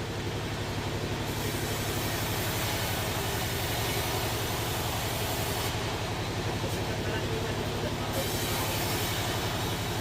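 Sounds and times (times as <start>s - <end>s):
heavy engine idling: 0.0s - 10.0s.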